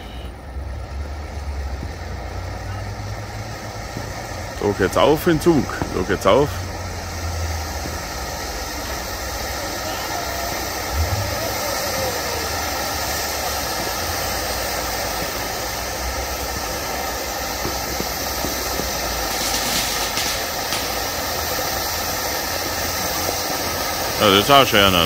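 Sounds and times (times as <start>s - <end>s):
firework fountain hissing: 0.0s - 25.0s.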